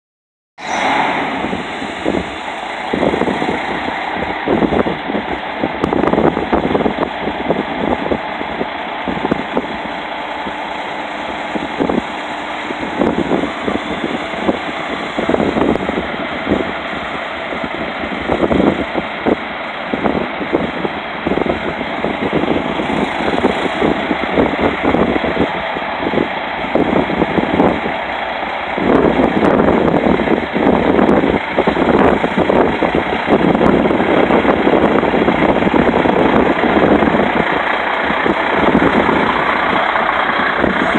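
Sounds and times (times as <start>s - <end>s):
diesel truck engine idling: 0.6s - 40.9s.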